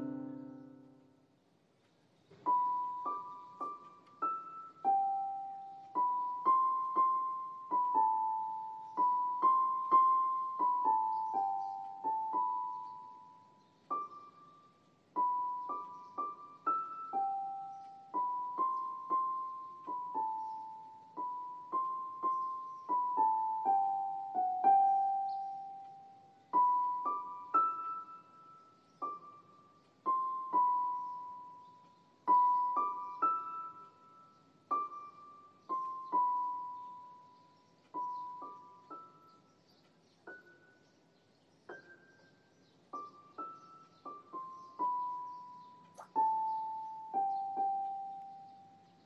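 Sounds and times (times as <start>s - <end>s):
slow piano melody: 0.0s - 1.6s, 2.3s - 49.0s.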